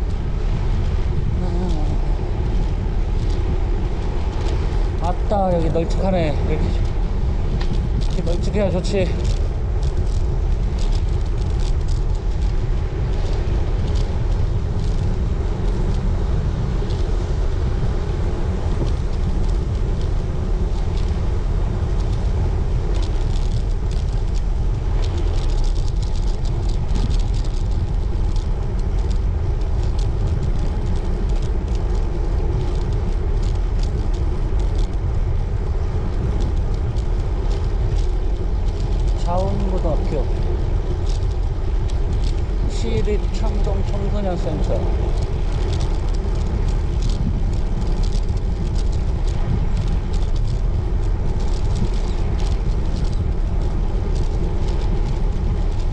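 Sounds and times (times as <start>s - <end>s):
bike tyre hum on pavement: 0.0s - 55.9s
wind rumble on microphone: 0.0s - 55.9s
light ticks: 0.1s - 55.9s.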